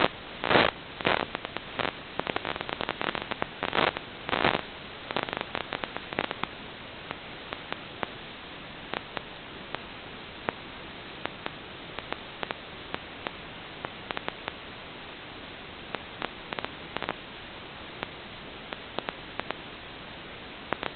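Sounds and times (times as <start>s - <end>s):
crackling clicks: 0.0s - 8.2s, 8.9s - 14.6s, 15.8s - 17.2s, 18.0s - 19.6s, 20.7s - 20.9s
static hiss: 0.0s - 20.9s.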